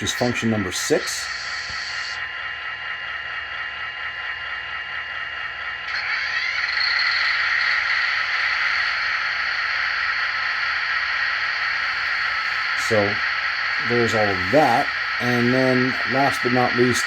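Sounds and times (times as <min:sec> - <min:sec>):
diesel locomotive idling: 0:00.0 - 0:17.0
generator running: 0:00.0 - 0:17.0.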